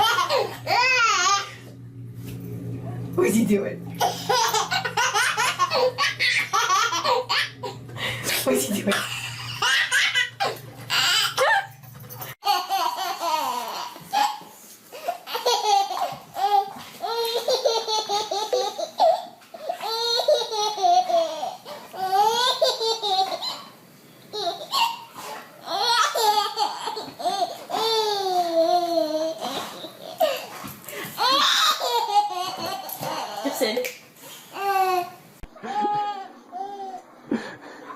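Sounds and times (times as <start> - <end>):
baby laughing: 0.0 - 1.6, 4.0 - 7.8, 8.9 - 11.7, 12.4 - 23.7, 24.3 - 30.6, 31.2 - 33.8, 34.6 - 37.5.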